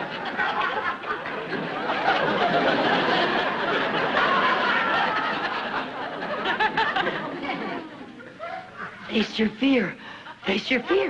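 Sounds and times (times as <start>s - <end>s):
audience laughing: 0.0s - 9.1s.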